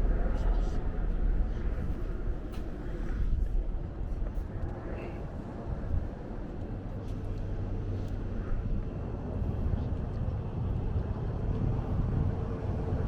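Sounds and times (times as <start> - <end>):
faint engine hum: 0.0 - 13.0.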